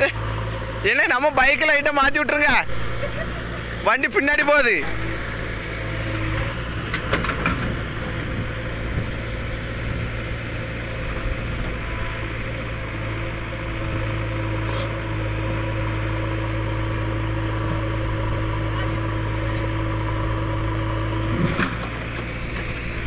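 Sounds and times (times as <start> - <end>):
diesel engines idling: 0.0 - 23.0.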